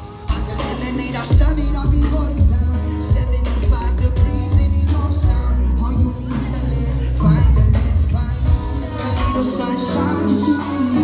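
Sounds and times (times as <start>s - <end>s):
loud music with heavy bass: 0.0s - 11.0s
person singing: 0.0s - 11.0s.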